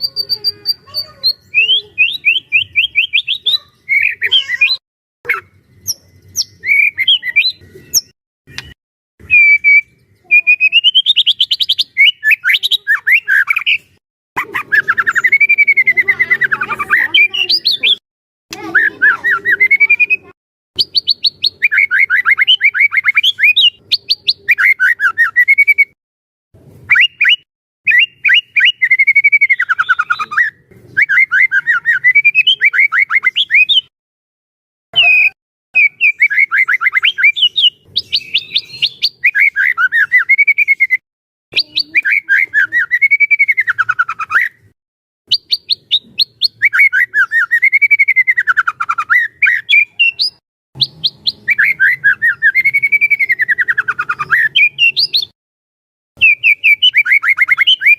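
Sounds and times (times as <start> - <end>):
songbird singing varied phrases: 0.0 - 26.0, 26.9 - 33.9, 35.0 - 55.4, 56.2 - 57.9.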